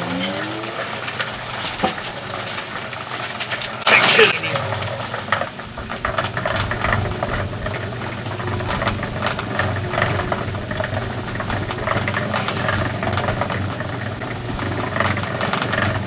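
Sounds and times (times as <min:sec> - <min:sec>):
concrete mixer motor humming: 0:00.0 - 0:16.0
gravel tumbling in drum: 0:00.0 - 0:16.0.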